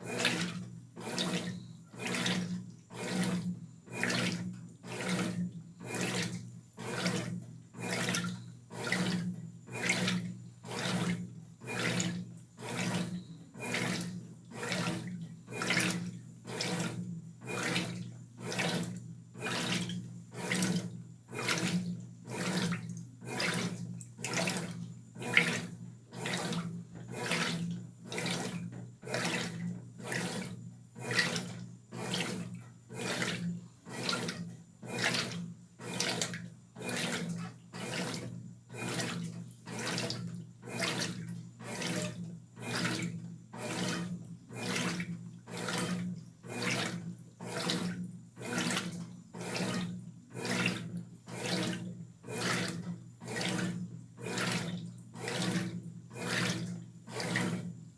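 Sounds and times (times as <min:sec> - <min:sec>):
washing machine motor hum: 0:00.0 - 0:57.9
washing machine water swishing: 0:00.0 - 0:57.9.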